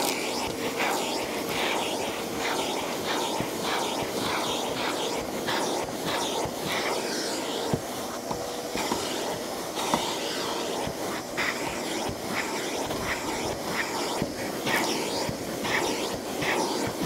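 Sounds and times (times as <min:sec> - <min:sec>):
shop vac sucking over carpet: 0:00.0 - 0:17.0.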